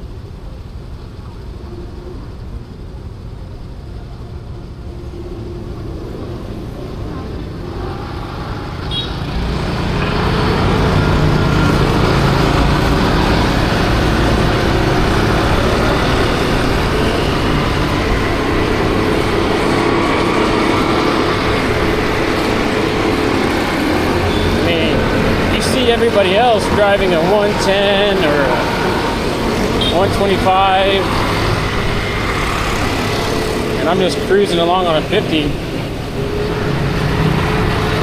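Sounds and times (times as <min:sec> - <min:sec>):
road noise: 0:00.0 - 0:38.0
motor scooter engine: 0:07.1 - 0:38.0.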